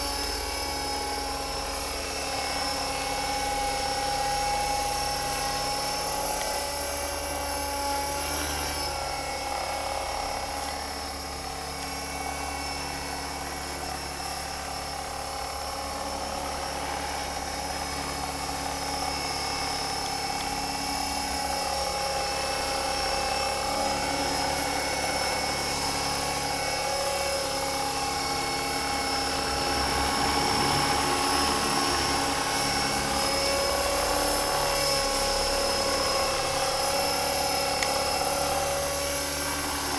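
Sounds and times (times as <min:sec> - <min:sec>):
model helicopter motor whine: 0:00.0 - 0:39.9
rotor whirring: 0:00.0 - 0:39.9.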